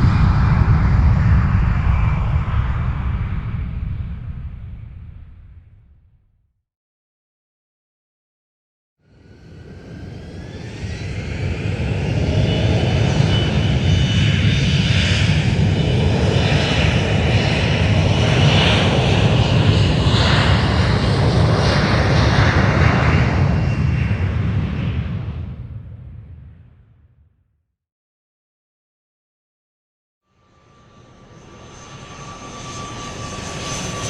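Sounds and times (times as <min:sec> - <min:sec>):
aircraft engine rumble and whine: 0:00.0 - 0:06.0, 0:09.1 - 0:26.8, 0:30.4 - 0:34.0.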